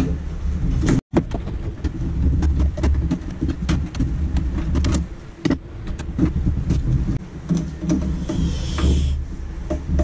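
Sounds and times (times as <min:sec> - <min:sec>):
steady low hum: 0:01.6 - 0:10.0.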